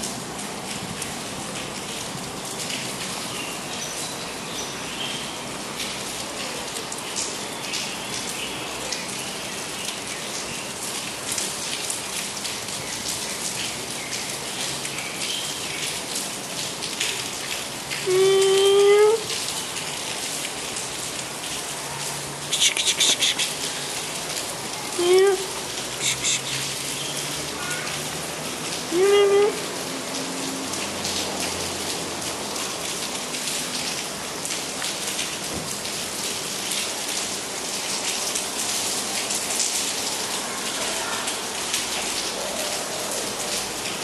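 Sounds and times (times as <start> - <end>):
rain patter: 0.0 - 44.0.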